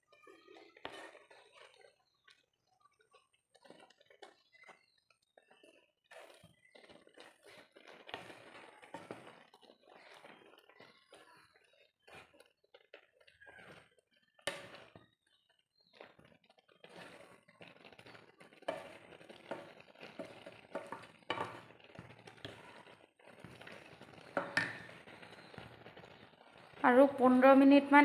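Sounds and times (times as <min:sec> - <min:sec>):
wooden spatula scraping a pan: 0:00.0 - 0:28.0.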